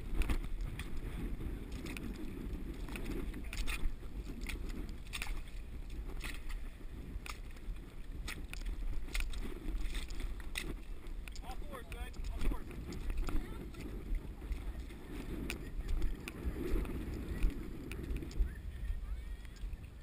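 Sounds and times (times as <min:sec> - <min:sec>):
scrabbling and squelching in wet mud: 0:00.0 - 0:20.0.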